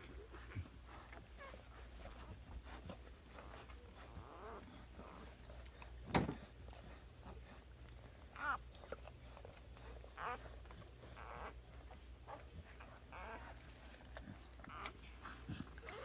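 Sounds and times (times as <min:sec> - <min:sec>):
puppies squeaking and whimpering: 0:00.1 - 0:16.0.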